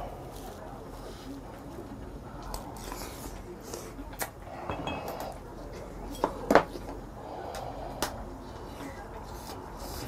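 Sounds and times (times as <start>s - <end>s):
soft eating sounds: 0.0s - 10.0s.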